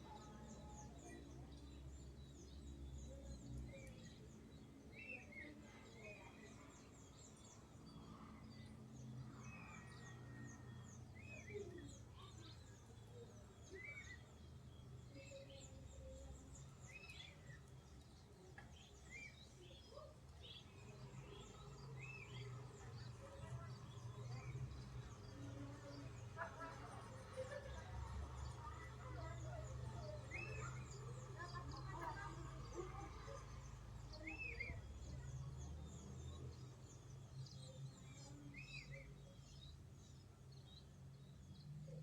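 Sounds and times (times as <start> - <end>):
birdsong: 0.0 - 42.0.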